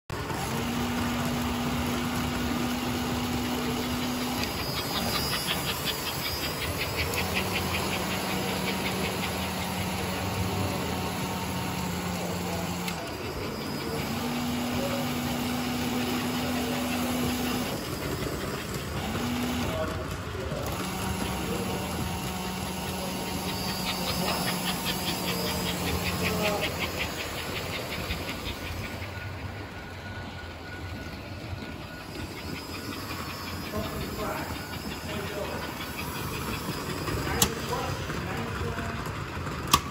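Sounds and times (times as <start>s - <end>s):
electric mechanism humming: 0.2s - 39.9s.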